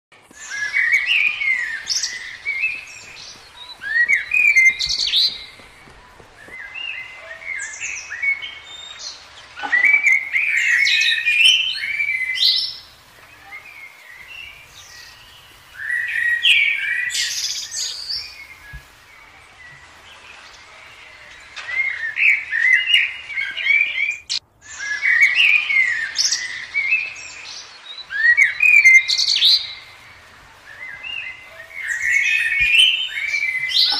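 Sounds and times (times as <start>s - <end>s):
bird chirping: 0.2s - 33.9s.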